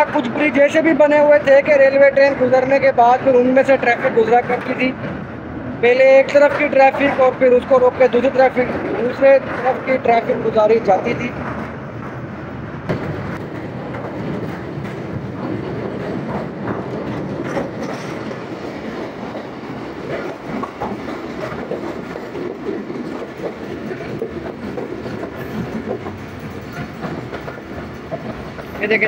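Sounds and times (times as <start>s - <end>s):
clickety-clack of wheels over track: 0.0s - 5.3s, 5.9s - 29.0s
train wheels rumbling on rails: 0.0s - 29.0s.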